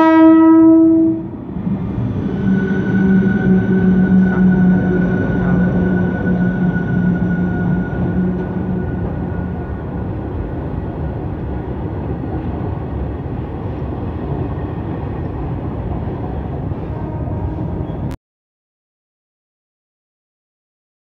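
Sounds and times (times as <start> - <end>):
train wheels rumbling on rails: 1.0 - 18.2
locomotive low hum: 1.1 - 18.2.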